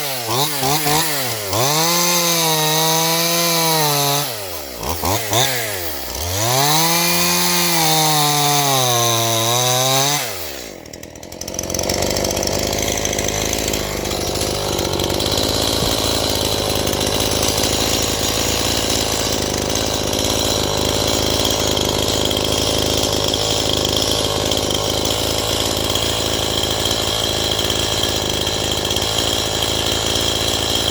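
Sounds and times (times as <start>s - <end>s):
chainsaw cutting: 0.0s - 30.9s.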